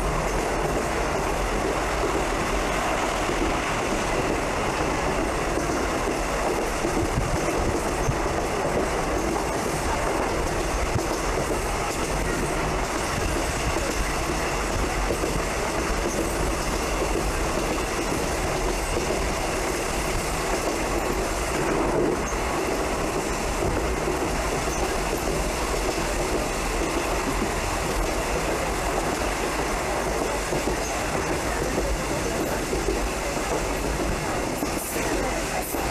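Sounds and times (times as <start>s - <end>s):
train wheels on rails: 0.0s - 35.9s.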